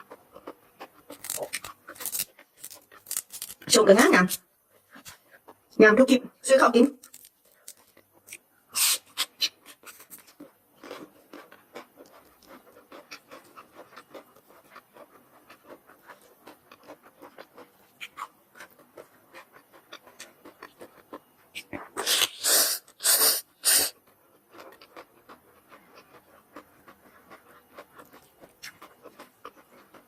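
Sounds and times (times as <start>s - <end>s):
wet chewing and lip-smacking: 0.0s - 3.7s, 7.0s - 30.0s.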